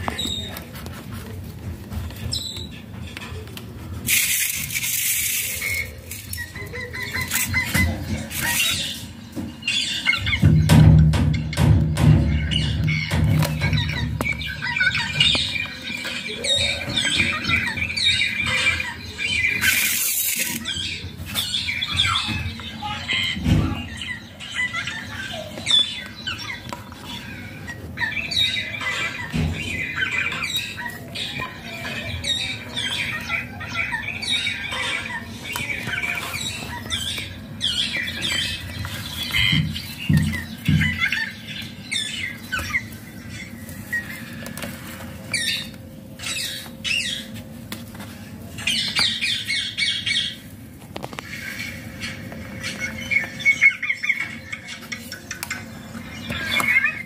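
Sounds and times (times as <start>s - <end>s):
parakeet squawking and chirping: 1.9s - 47.5s, 48.2s - 57.0s.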